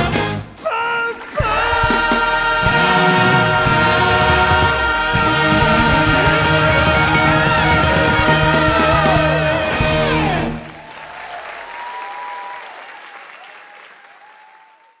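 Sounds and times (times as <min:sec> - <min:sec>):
stage musical music: 0:00.0 - 0:12.4
audience applause: 0:01.2 - 0:15.0.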